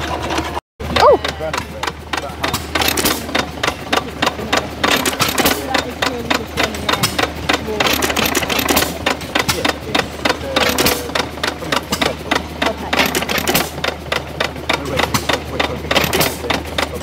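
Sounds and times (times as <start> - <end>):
stationary engines clattering: 0.0 - 17.0.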